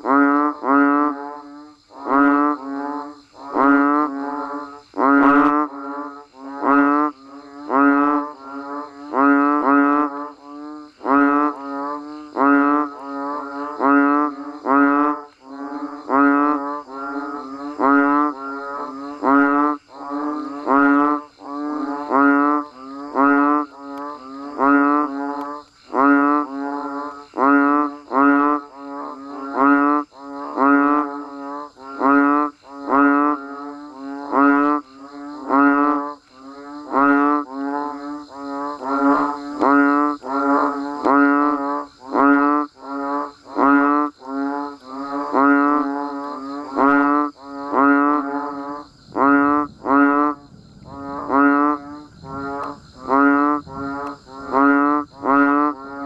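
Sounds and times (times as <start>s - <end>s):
frogs calling: 0.0s - 56.0s.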